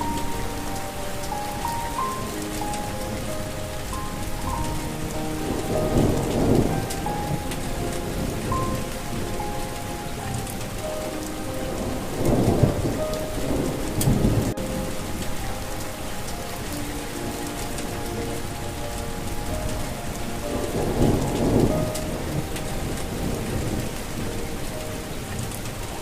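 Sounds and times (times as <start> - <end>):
soft melody of held notes: 0.0 - 26.0
steady rain falling: 0.0 - 26.0
thunder rumbling: 0.0 - 26.0.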